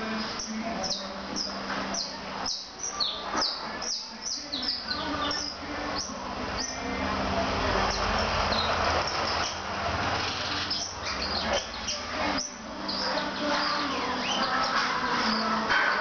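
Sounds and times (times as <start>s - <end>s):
canary chirping: 0.0s - 16.0s.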